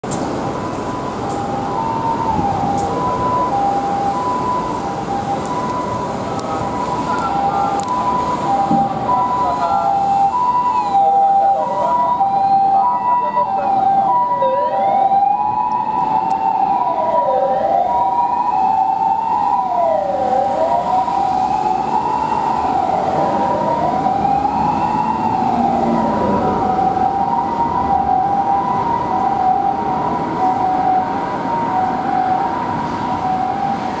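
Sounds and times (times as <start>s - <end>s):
traffic noise: 0.0s - 34.0s
two-tone ambulance siren: 0.1s - 34.0s
wailing siren: 0.4s - 34.0s.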